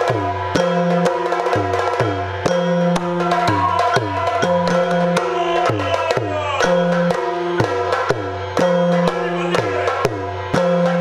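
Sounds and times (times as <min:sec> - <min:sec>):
drums in a dance rhythm: 0:00.0 - 0:11.0.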